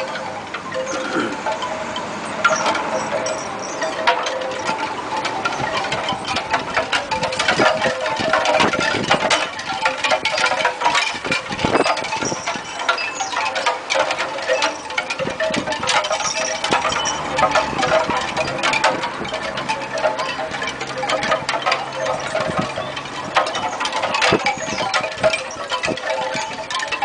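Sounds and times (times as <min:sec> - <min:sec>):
metal dog tags jingling: 0:00.0 - 0:27.0.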